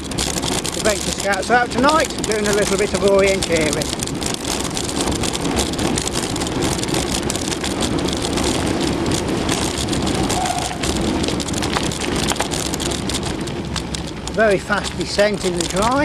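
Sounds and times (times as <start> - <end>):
bike clicks and rattles: 0.0 - 16.0
bike tyres on trail: 0.0 - 16.0.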